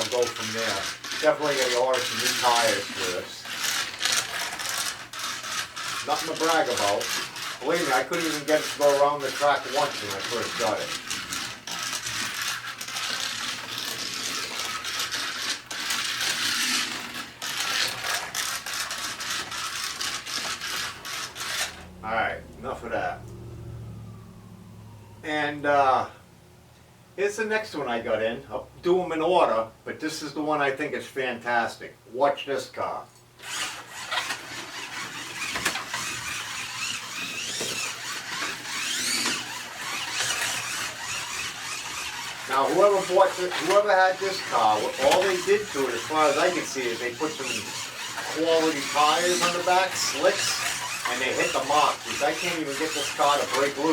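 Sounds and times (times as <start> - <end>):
slot car motor buzzing: 0.0 - 25.8, 33.4 - 53.9.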